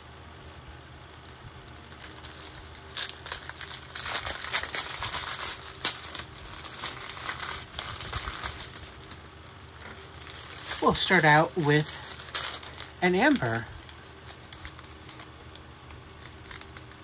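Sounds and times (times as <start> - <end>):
plastic bags crinkling: 0.2 - 17.0.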